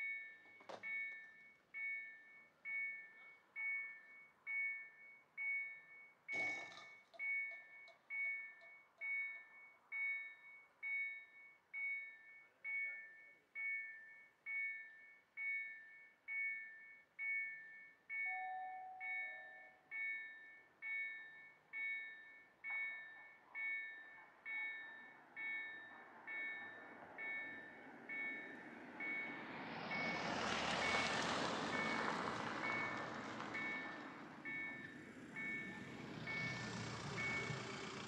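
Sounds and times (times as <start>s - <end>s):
level-crossing warning bell: 0.0s - 38.0s.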